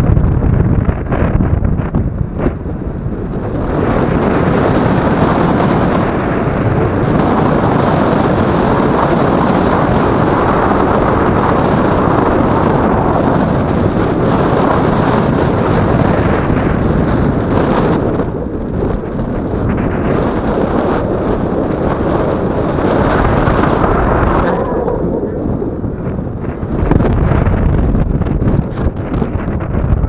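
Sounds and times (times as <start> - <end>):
wind roaring over microphone: 0.0 - 30.0.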